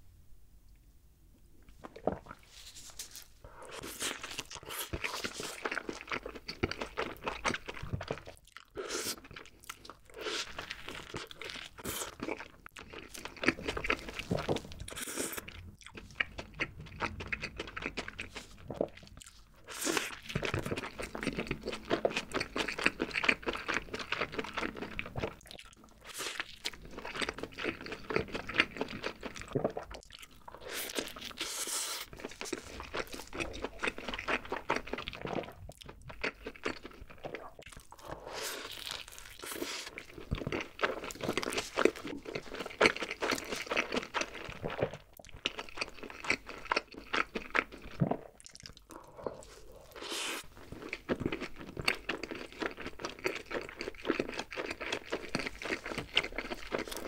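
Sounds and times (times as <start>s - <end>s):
biting and chewing burger: 1.8s - 57.0s.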